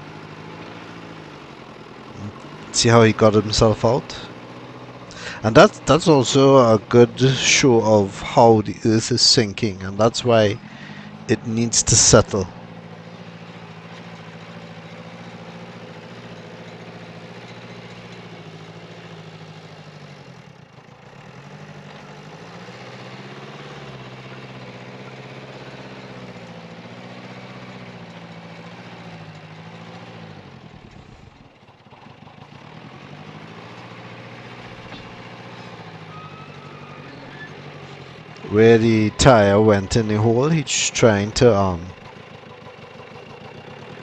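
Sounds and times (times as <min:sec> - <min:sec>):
diesel engine under load: 0:00.0 - 0:44.0.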